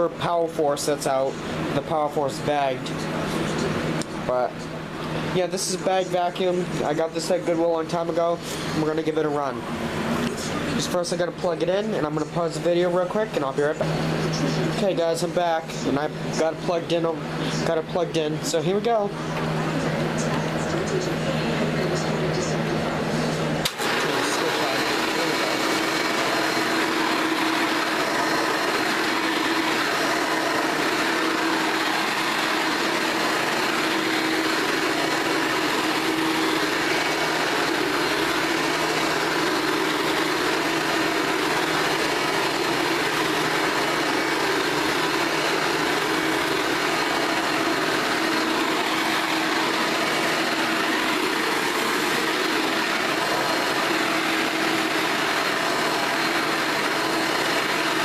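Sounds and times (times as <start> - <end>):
upright vacuum cleaner running: 0.0 - 58.0.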